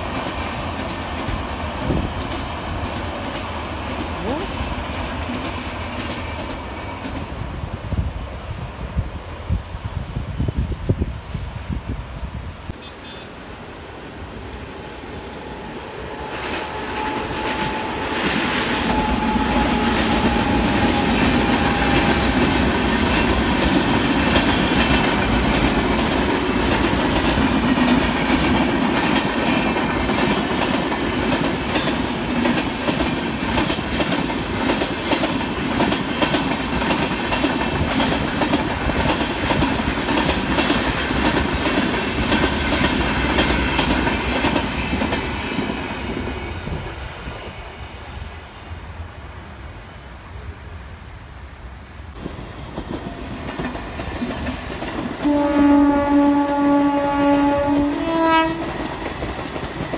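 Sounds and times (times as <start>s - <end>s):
train passing at speed: 0.0s - 59.9s.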